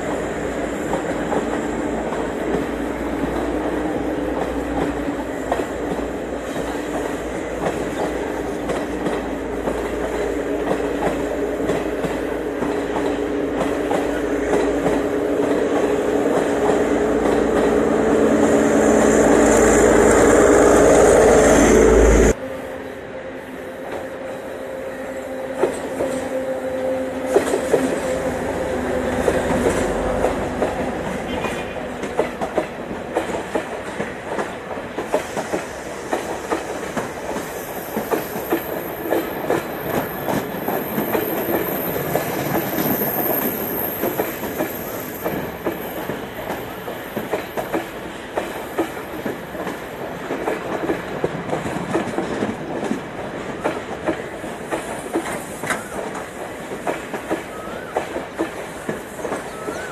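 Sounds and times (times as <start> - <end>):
train wheels clacking: 0.0 - 22.4, 25.4 - 59.9
train engine droning: 0.0 - 59.9.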